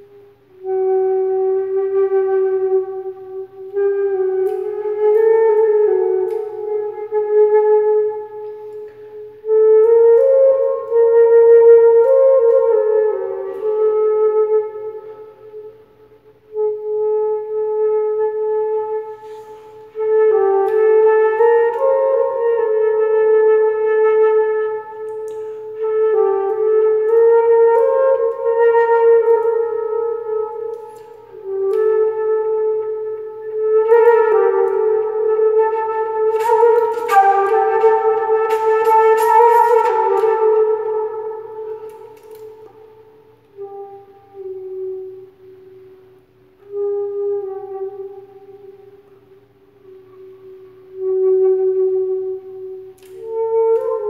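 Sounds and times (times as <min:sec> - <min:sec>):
flute melody: 0:00.0 - 0:54.0.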